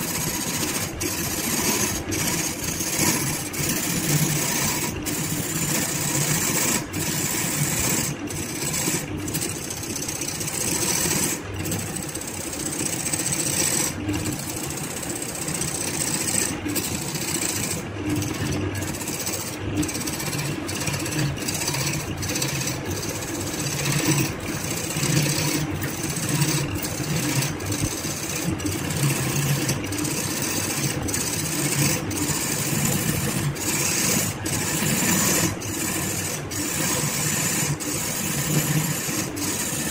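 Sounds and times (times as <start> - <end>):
lathe motor hum: 0.0 - 39.9.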